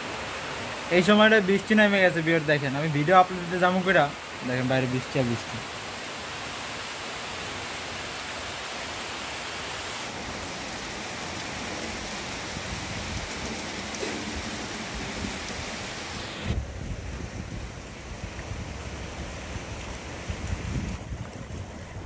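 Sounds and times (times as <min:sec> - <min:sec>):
heavy rain on ground and puddles: 0:00.0 - 0:22.0.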